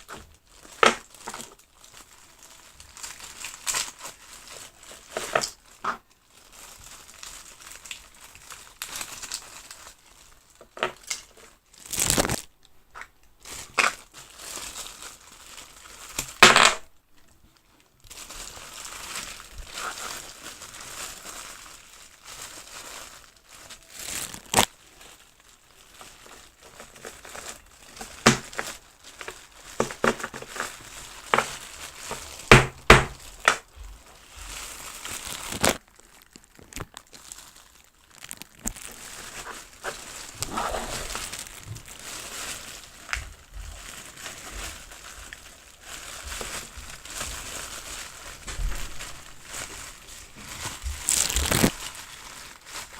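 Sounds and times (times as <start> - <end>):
plastic crinkling: 0.0 - 52.9.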